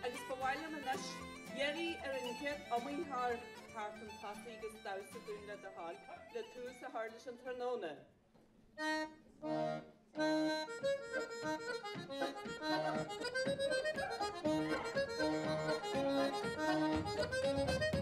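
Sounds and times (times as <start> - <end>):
accordion playing a dance tune: 0.0 - 7.3, 8.8 - 18.0.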